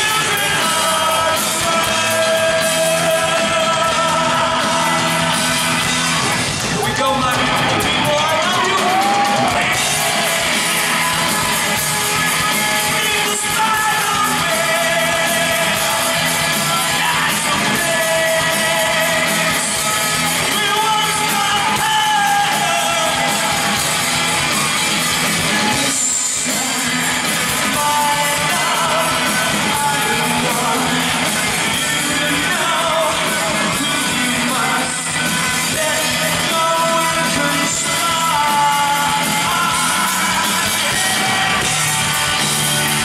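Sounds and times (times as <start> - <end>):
man singing: 0.0 - 24.0, 25.4 - 42.5
bass guitar: 0.0 - 43.0
drums: 0.0 - 43.0
electric guitar: 0.0 - 43.0.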